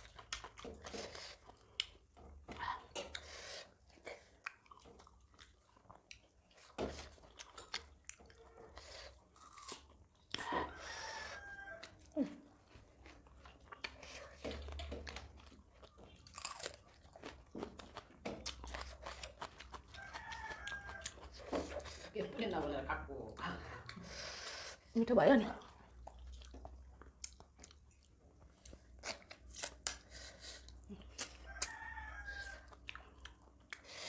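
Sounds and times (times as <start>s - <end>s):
chewing and crunching food: 0.0s - 34.0s.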